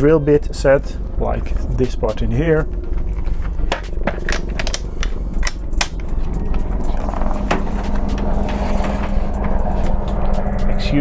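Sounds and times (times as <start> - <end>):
helicopter thrumming: 0.0 - 11.0.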